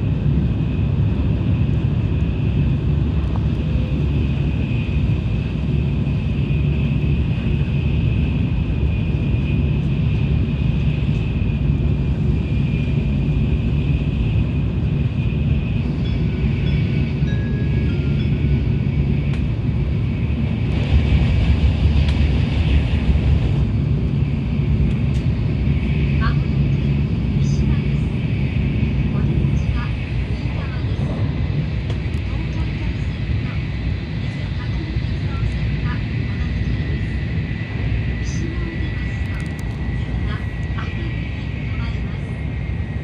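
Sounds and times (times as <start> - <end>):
train wheels rumbling: 0.0 - 43.0.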